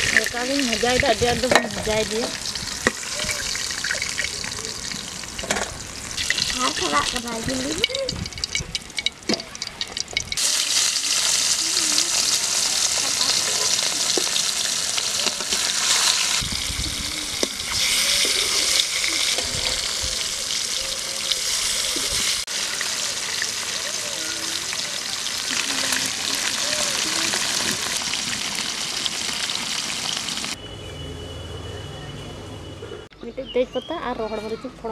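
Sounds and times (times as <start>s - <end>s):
fish sizzling in hot oil: 0.0s - 30.6s.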